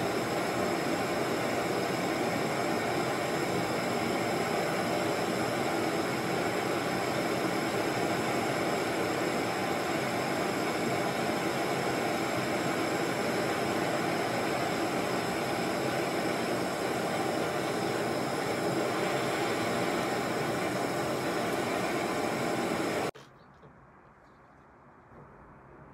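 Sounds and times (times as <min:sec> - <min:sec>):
blowtorch flame hissing: 0:00.0 - 0:23.2.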